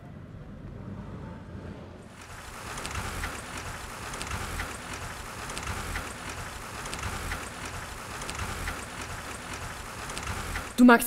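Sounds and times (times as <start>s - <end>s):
bike road noise: 0.0s - 11.0s.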